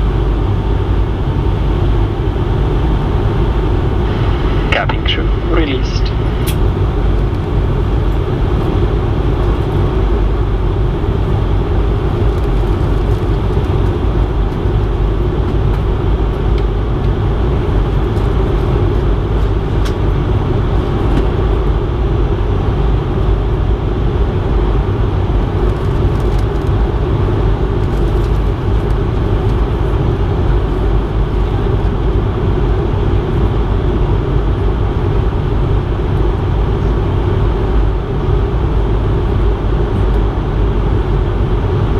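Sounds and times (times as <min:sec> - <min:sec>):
airliner cabin noise: 0:00.0 - 0:41.9.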